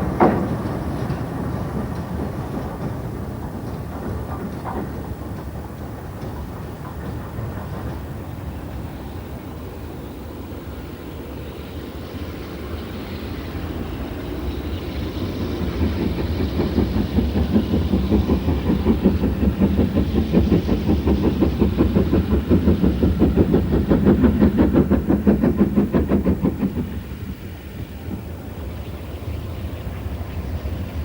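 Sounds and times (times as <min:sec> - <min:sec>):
steam locomotive passing: 0:00.0 - 0:31.0.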